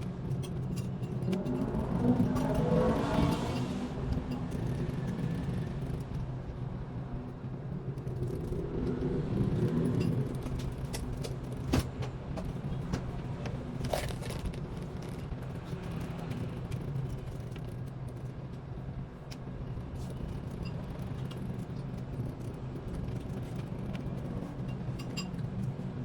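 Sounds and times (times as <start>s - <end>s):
low motor hum: 0.0s - 26.0s.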